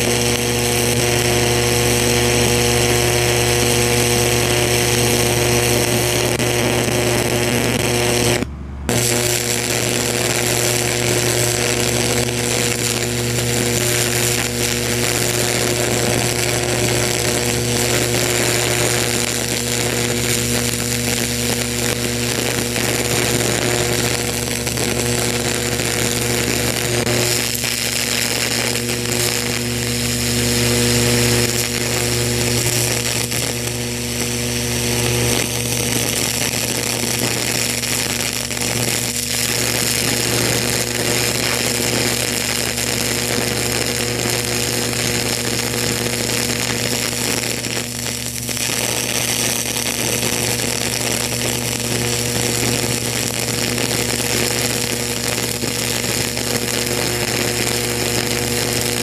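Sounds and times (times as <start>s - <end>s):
steady low hum: 0.0s - 47.2s
electric arc buzzing: 0.0s - 59.0s.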